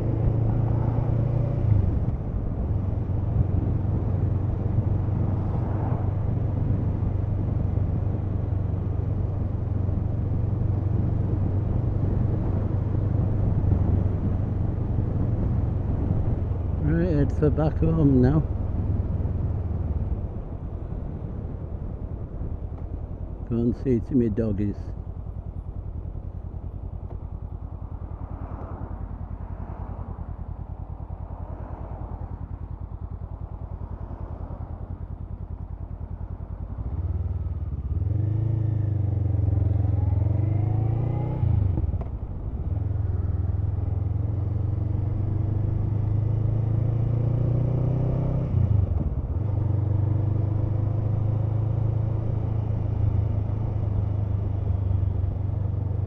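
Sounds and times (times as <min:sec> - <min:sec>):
motorcycle engine accelerating: 0:00.0 - 0:23.9, 0:24.9 - 0:56.0.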